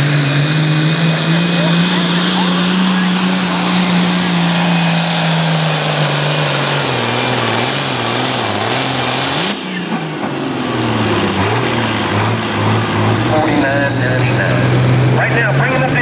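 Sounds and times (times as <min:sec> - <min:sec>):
diesel tractor engine at full throttle: 0:00.0 - 0:16.0.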